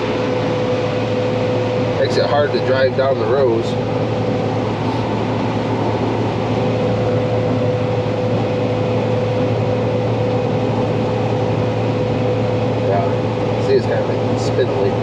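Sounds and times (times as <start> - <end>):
combine harvester engine drone: 0.0 - 15.0
constant whining tone: 0.0 - 15.0.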